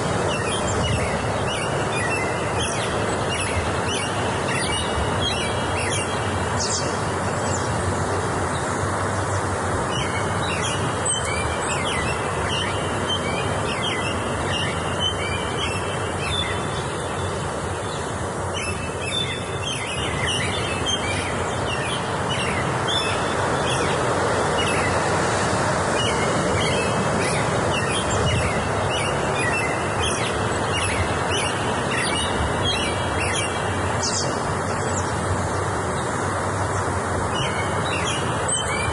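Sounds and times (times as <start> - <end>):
songbirds chirping: 0.0 - 38.9
steady rushing background noise: 0.0 - 38.9.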